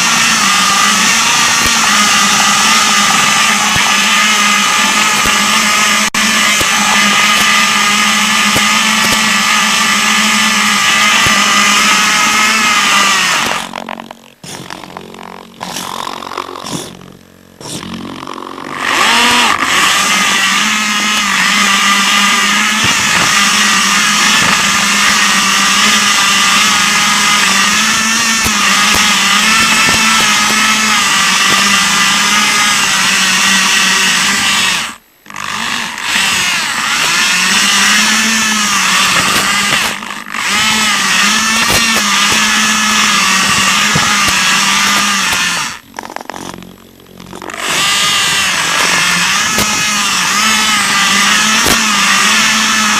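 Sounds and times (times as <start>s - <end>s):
electric motors and gears whining: 0.0s - 52.9s.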